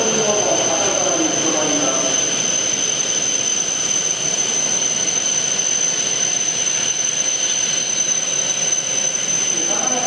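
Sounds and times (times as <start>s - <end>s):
cooling fans whirring: 0.0s - 10.0s
high-pitched whine: 0.0s - 10.0s.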